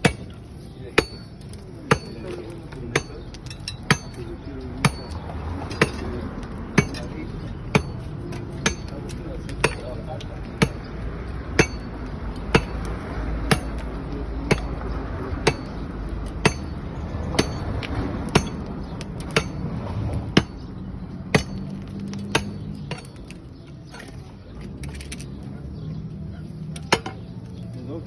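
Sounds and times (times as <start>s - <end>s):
hand tool striking pavement: 0.0s - 24.2s, 26.8s - 27.3s.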